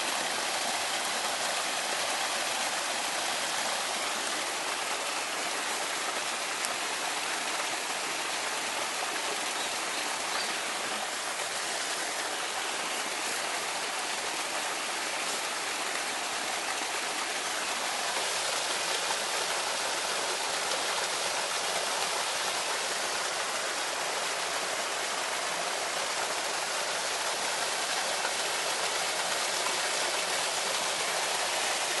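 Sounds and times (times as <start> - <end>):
running water rushing: 0.0 - 32.0.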